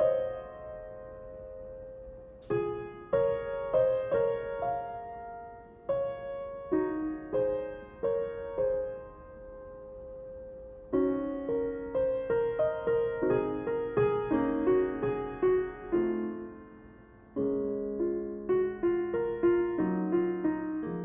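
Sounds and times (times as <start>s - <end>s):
gentle piano piece: 0.0s - 21.0s.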